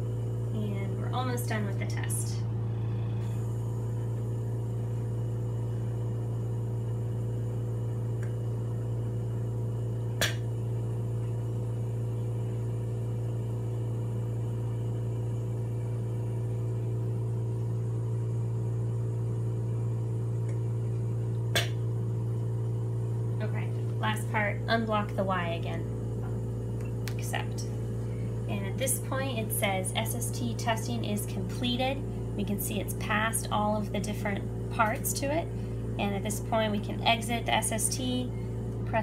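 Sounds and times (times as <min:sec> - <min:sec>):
ventilator humming: 0:00.0 - 0:39.0.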